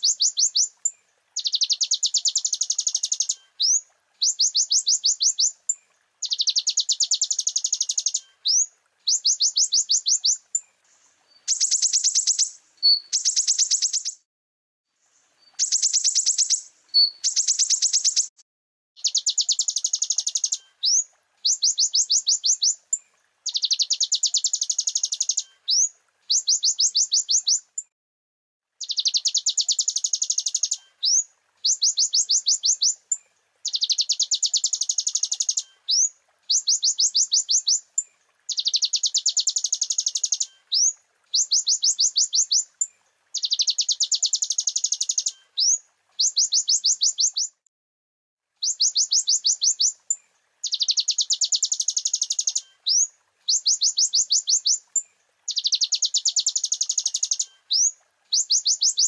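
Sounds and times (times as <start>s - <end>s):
sunbird singing high trills: 0.0s - 10.7s, 11.3s - 14.3s, 15.4s - 18.4s, 19.0s - 27.7s, 28.8s - 47.6s, 48.6s - 59.0s.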